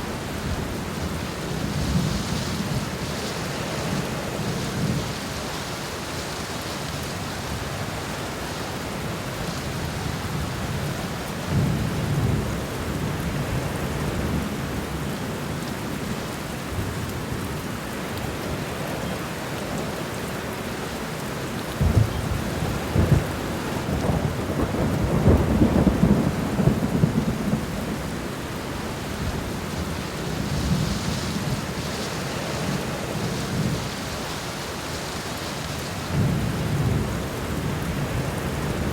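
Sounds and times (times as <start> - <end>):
rain falling on plants: 0.0 - 38.9.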